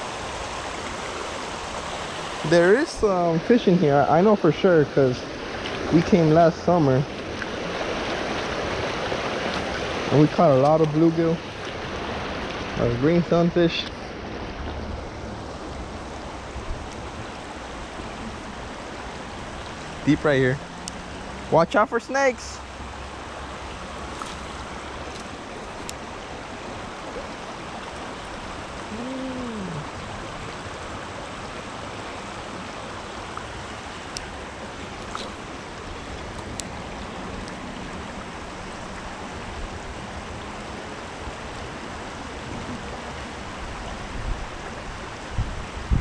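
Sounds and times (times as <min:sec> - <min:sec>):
creek water running: 0:00.0 - 0:46.0.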